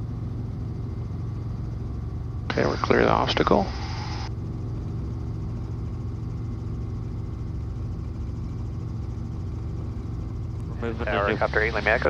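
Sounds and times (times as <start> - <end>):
helicopter engine and rotors drone: 0.0 - 12.0.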